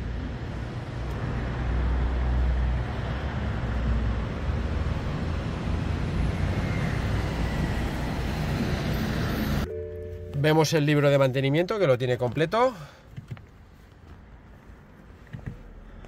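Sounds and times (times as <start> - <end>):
low city rumble: 0.0 - 16.0.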